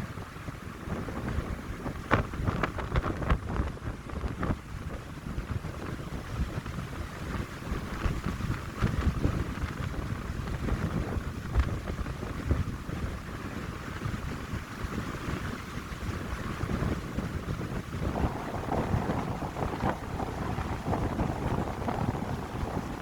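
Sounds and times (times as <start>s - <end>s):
wind buffeting microphone: 0.0s - 23.0s
wind through pine trees: 0.0s - 23.0s.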